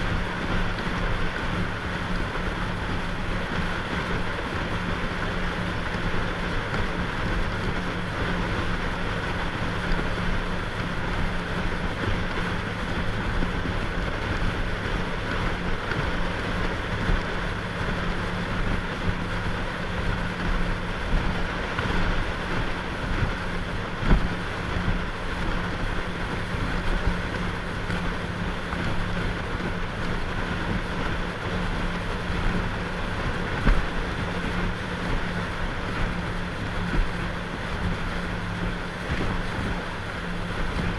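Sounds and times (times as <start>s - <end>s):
motorboat engine running: 0.0s - 40.9s
water rushing past hull: 0.0s - 40.9s
wind on microphone: 0.0s - 40.9s.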